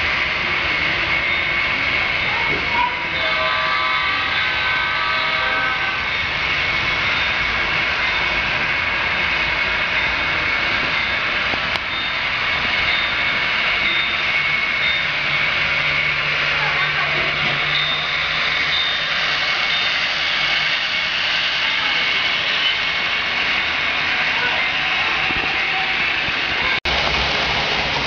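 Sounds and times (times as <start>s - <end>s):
model trains whirring on rails: 0.0s - 28.0s.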